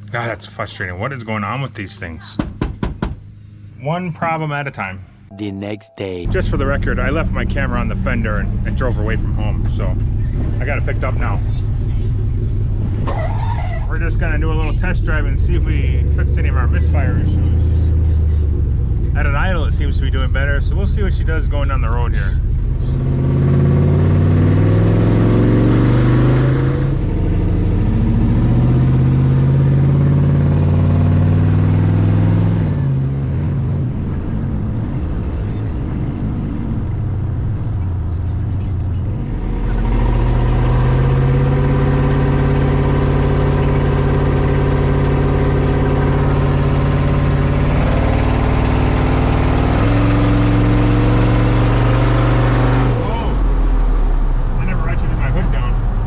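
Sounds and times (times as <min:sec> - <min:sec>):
car engine accelerating through gears: 0:06.4 - 0:56.0.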